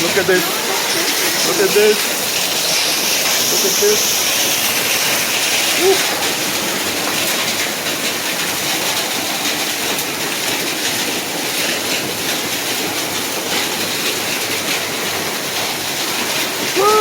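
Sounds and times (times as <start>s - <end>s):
hailstones ticking: 0.0s - 17.0s
heavy rain hissing: 0.0s - 17.0s.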